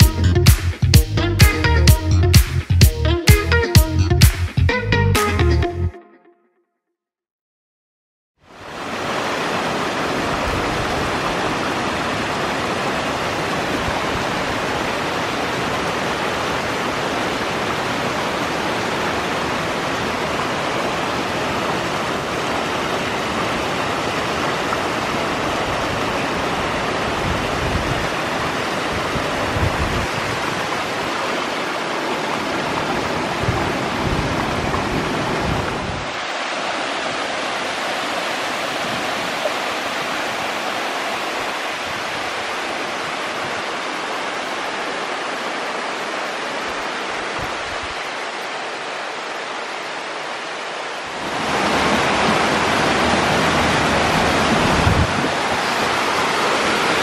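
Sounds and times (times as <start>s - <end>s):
waterfall rushing: 8.5s - 57.0s.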